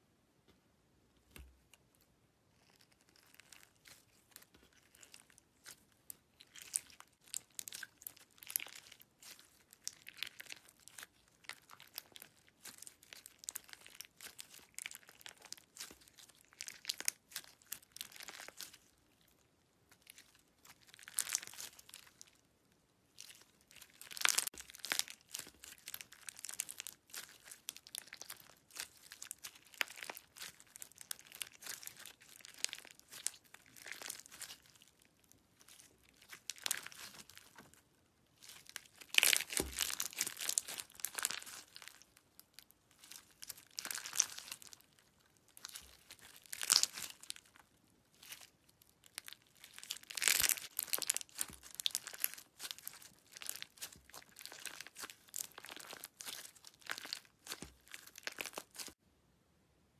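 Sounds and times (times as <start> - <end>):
slime squeezed crackling: 2.5 - 59.0.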